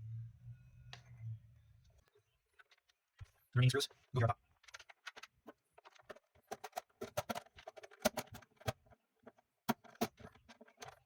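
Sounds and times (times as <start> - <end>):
plastic parts handled: 2.0 - 11.0.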